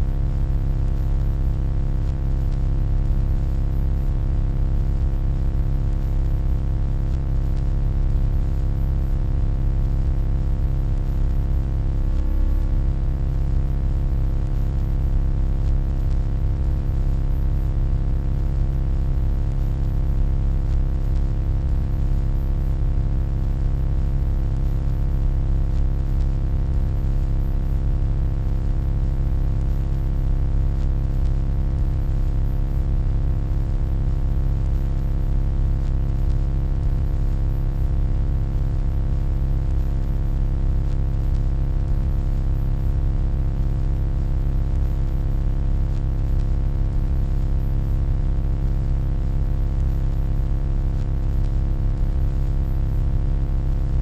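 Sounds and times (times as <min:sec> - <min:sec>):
electronic hum: 0:00.0 - 0:48.3, 0:49.8 - 0:50.1, 0:50.9 - 0:52.0.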